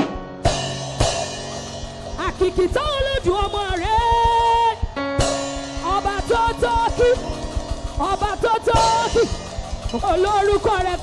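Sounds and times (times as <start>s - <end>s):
band playing: 0.0s - 11.0s
drum kit beat: 0.0s - 11.0s.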